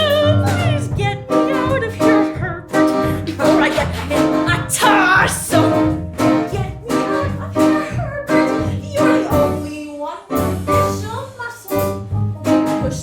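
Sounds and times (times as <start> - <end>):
plucked strings playing a beat: 0.0 - 13.0.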